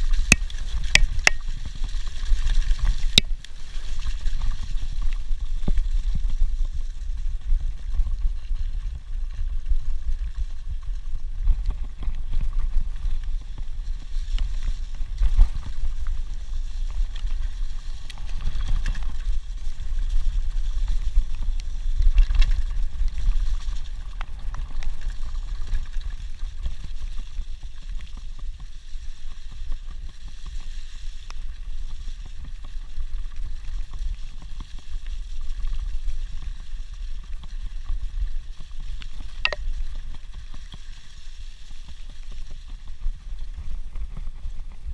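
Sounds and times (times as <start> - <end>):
bike rolling over dirt: 0.0 - 44.9
wind rumbling on microphone: 0.0 - 44.9.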